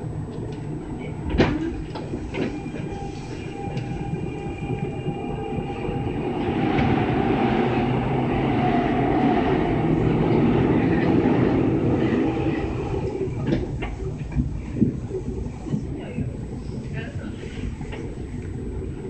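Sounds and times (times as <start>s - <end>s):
electric train running noise: 1.3s - 19.0s.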